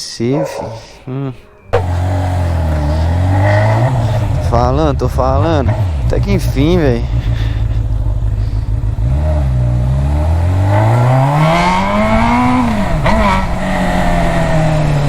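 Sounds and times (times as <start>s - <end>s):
motorcycle engine revving: 1.7s - 15.0s.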